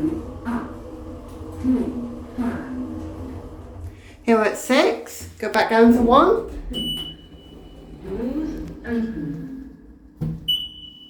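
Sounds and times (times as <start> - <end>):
lift humming: 0.0 - 11.0.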